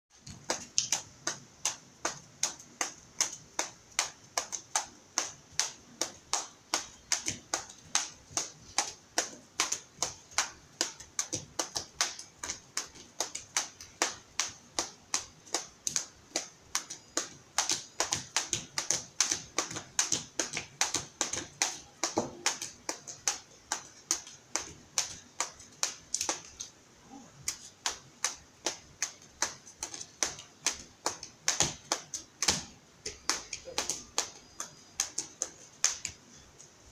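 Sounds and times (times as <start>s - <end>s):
skipping ropes slapping pavement: 0.2s - 26.7s, 27.5s - 36.2s.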